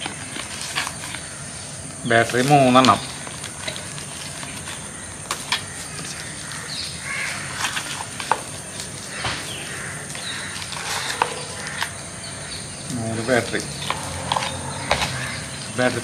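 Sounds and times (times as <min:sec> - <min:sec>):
birds cawing: 0:00.0 - 0:16.0.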